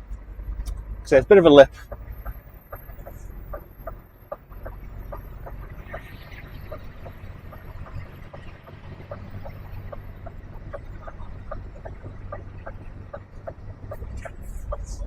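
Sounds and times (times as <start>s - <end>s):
diesel engine running: 0.0s - 15.0s
reversing alarm beeping: 0.0s - 15.0s.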